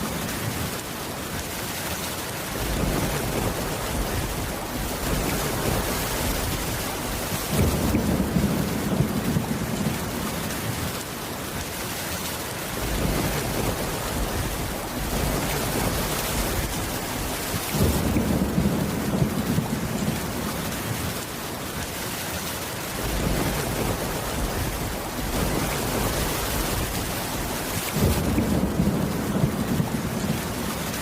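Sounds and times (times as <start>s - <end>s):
rain on a wooden roof: 0.0s - 31.0s
thunder rumbling: 2.5s - 11.0s, 12.7s - 21.2s, 23.0s - 31.0s.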